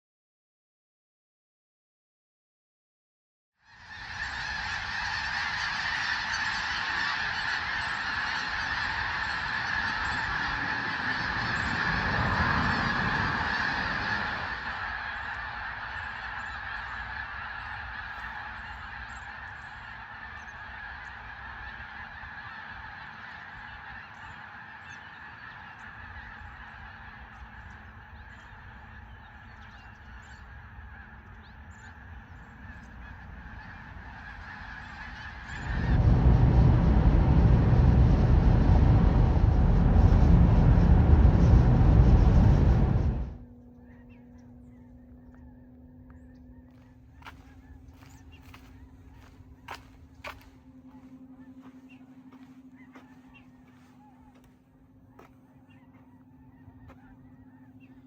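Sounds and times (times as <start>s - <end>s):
flock of geese honking: 3.6s - 58.0s.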